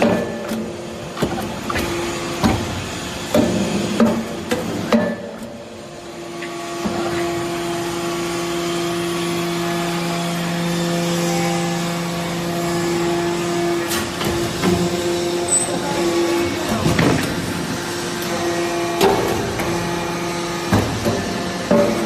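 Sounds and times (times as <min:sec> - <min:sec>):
baler machine hum and hiss: 0:00.0 - 0:22.0.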